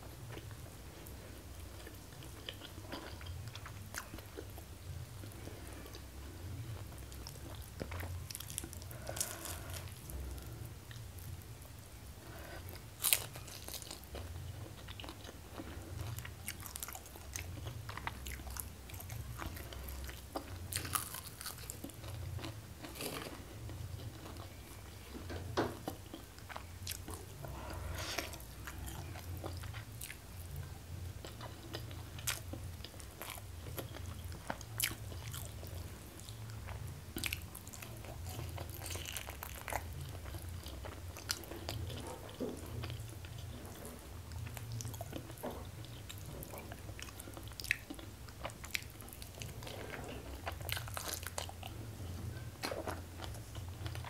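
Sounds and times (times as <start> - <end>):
person chewing crisp food: 1.7 - 11.4, 12.2 - 54.0.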